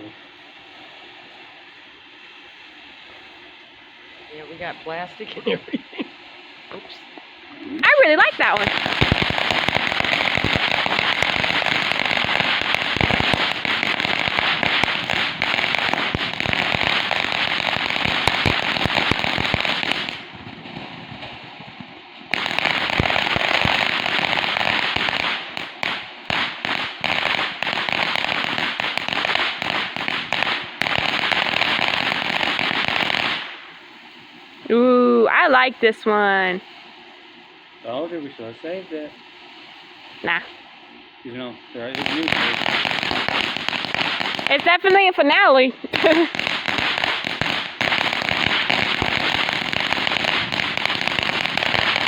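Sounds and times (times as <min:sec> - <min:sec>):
fireworks crackling and popping: 0:04.2 - 0:37.2, 0:37.8 - 0:52.0.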